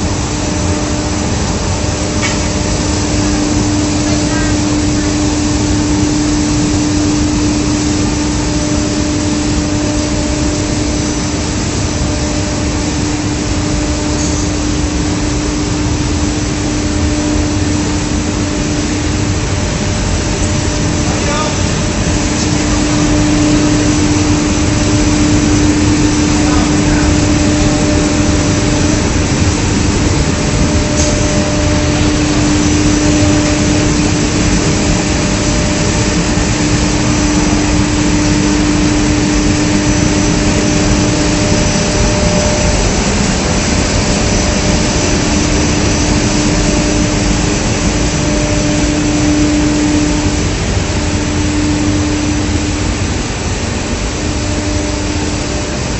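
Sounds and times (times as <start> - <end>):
industrial machinery running: 0.0 - 55.9.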